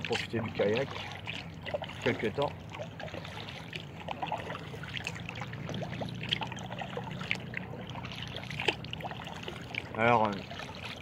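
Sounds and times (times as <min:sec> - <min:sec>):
paddle splashing water: 0:00.0 - 0:11.0
water dripping off paddle: 0:00.0 - 0:11.0.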